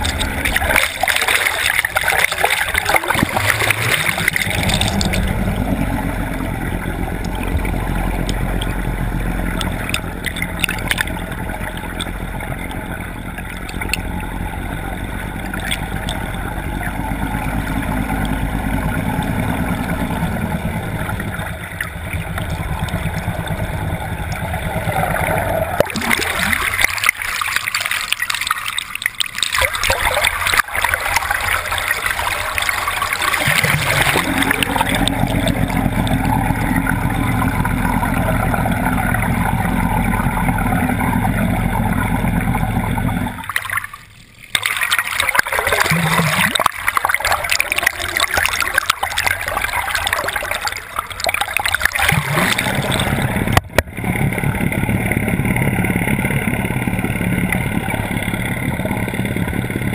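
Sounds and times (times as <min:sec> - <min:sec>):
boat motor running: 0:00.0 - 0:59.9
water rushing and gurgling: 0:00.0 - 0:59.9.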